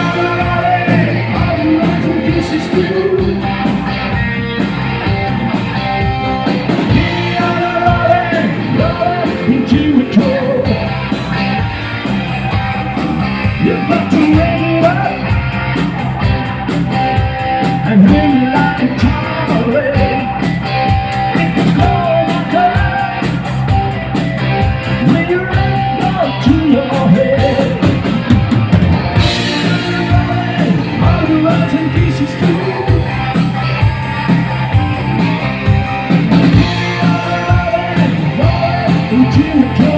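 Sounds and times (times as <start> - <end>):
lead voice singing: 0.0 - 5.2, 6.0 - 11.7, 13.3 - 16.3, 17.2 - 39.9
rock band playing live: 0.0 - 39.9.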